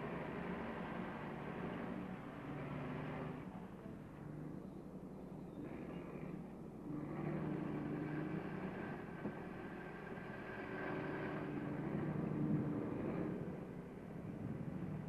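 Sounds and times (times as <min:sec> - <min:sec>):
heavy machinery engines droning: 0:00.0 - 0:15.0.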